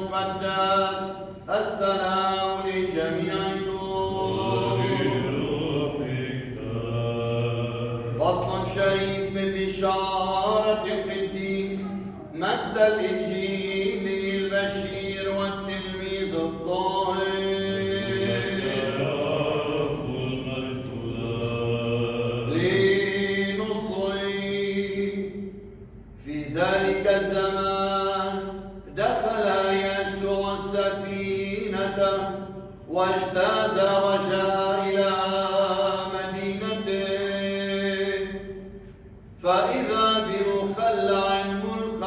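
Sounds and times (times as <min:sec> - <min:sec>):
lower voice chanting: 0:00.0 - 0:42.0
unaccompanied liturgical chant: 0:00.0 - 0:42.0.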